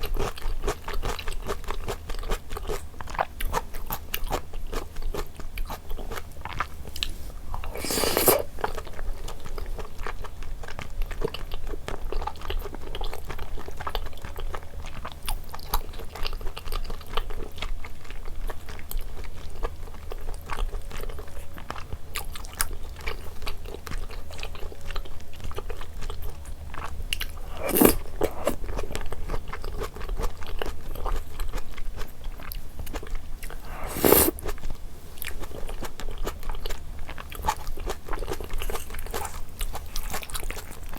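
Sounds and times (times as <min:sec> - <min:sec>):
wet crunching mouth sounds: 0:00.0 - 0:14.6, 0:21.7 - 0:40.9
person chewing food: 0:00.0 - 0:40.9.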